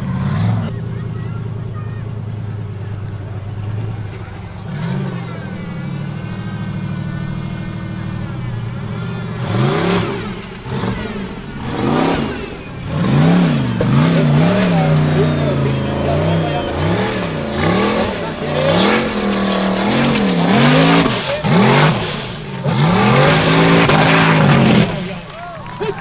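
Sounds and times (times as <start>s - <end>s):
buggy engine revving: 0.0s - 26.0s
tyres spinning in dirt: 0.0s - 26.0s.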